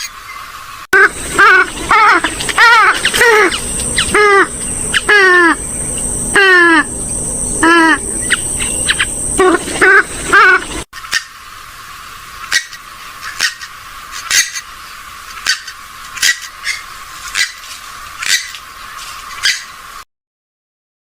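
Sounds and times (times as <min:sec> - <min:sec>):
sharp waterbird calls: 0:01.0 - 0:06.9, 0:07.6 - 0:11.6, 0:12.3 - 0:19.8.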